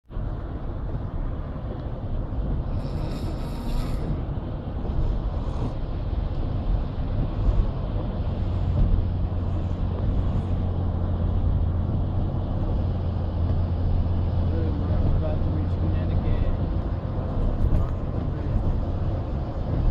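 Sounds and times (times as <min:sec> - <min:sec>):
road and engine noise in car: 0:00.0 - 0:19.9.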